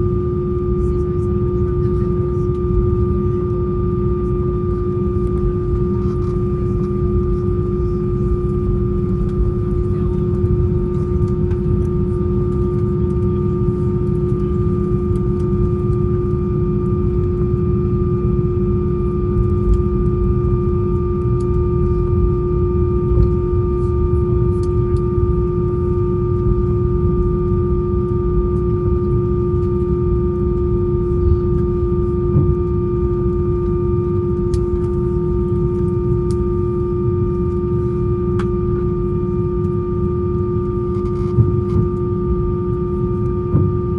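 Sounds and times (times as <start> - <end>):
aircraft cabin rumble: 0.0 - 43.9
constant multi-tone hum: 0.0 - 43.9.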